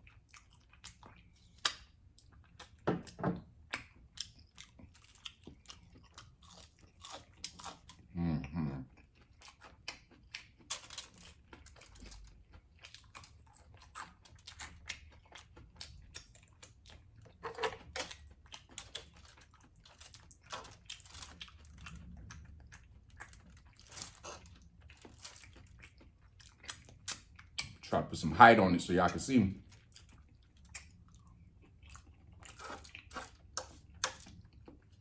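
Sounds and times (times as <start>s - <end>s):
mouth chewing clicks and smacks: 3.6s - 8.0s, 8.9s - 17.3s, 17.9s - 27.8s, 29.7s - 35.0s.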